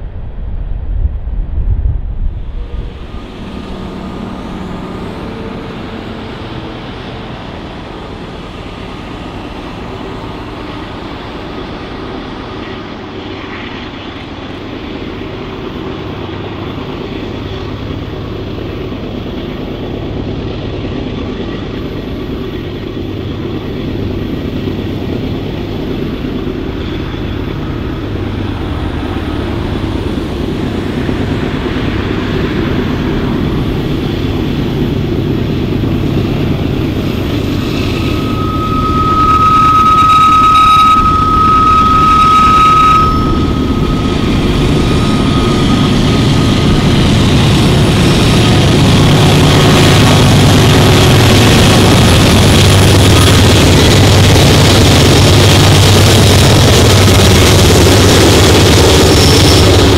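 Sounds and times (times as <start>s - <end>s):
diesel locomotive engine rumble: 0.0s - 59.9s
train wheel and rail noise: 0.0s - 59.9s.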